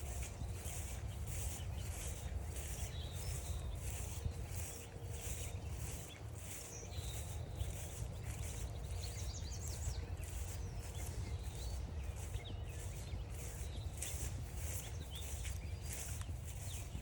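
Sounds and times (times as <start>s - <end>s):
bird chirps and trills: 0.0s - 17.0s
footsteps crunching on a trail: 0.0s - 17.0s.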